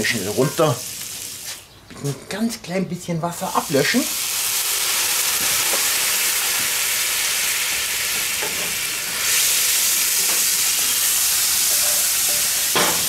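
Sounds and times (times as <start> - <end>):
water sizzling in a hot skillet: 0.0 - 1.6, 3.5 - 13.0.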